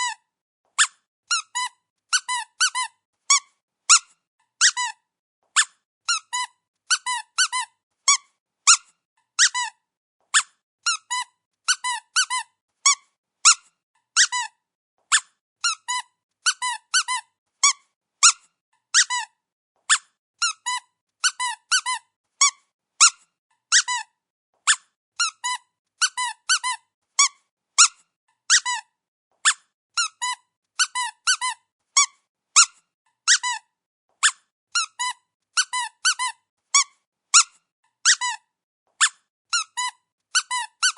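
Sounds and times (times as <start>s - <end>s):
dog squeaky toy squeaking: 0.0s - 0.2s, 0.8s - 40.9s.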